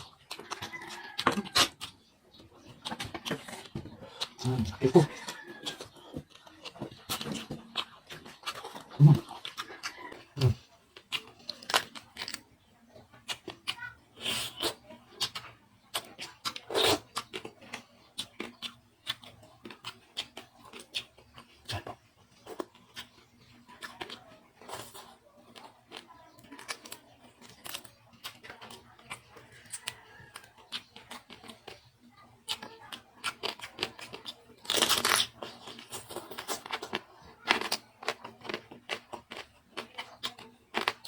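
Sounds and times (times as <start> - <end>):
food crunching: 0.0 - 41.0
person chewing and smacking: 0.0 - 41.0.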